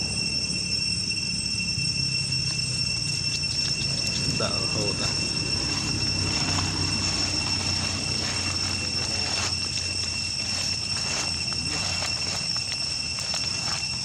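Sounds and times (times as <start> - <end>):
insects droning: 0.0 - 14.0
low steady rumble: 0.0 - 14.0.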